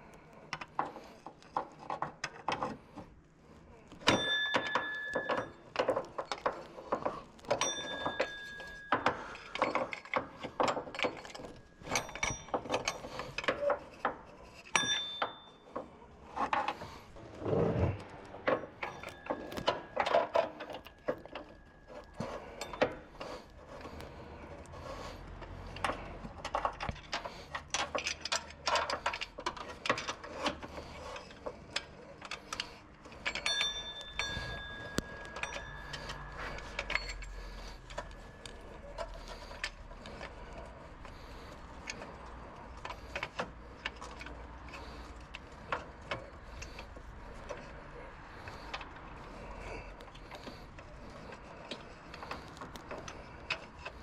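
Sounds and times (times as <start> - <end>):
hand tools clicking and clinking: 0.2 - 54.0.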